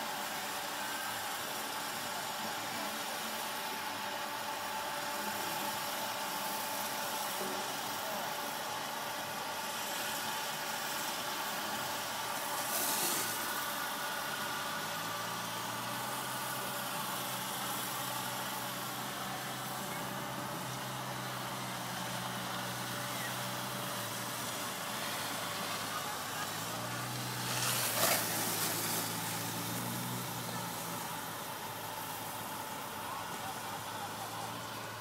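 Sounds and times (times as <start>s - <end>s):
snowmaking cannon hum and hiss: 0.0s - 35.0s.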